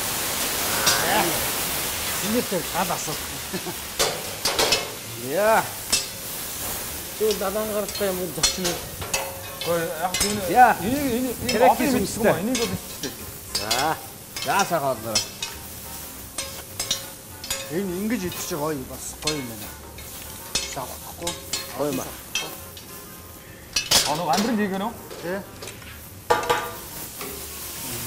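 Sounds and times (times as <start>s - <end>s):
food sizzling on a griddle: 0.0s - 28.0s
metal sticks scraping hot iron: 0.7s - 28.0s.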